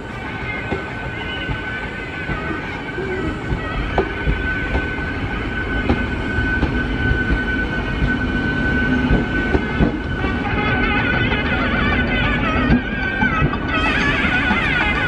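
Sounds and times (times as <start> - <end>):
train rolling past: 0.0 - 15.0.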